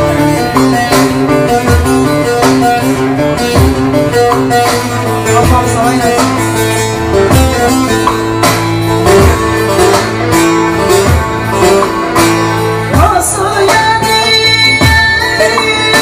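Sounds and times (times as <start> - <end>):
plucked string folk tune: 0.0 - 16.0.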